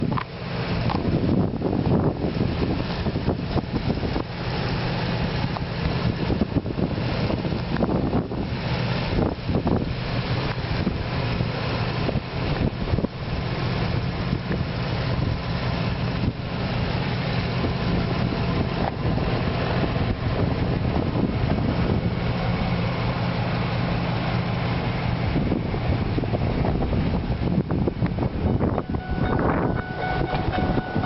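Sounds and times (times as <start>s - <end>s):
truck engine idling: 0.0s - 31.0s
wind buffeting microphone: 0.0s - 31.0s.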